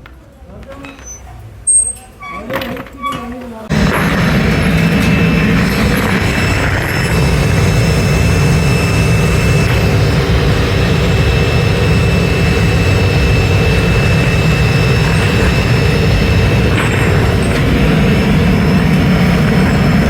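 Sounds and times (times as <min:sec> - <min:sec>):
factory machinery rumbling: 0:01.5 - 0:20.0
high machine whine: 0:03.7 - 0:20.0.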